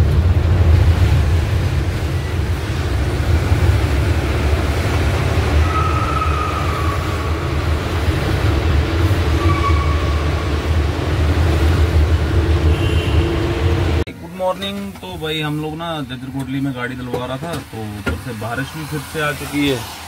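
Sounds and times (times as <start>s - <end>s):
truck engine and tyres rumbling: 0.0s - 20.0s.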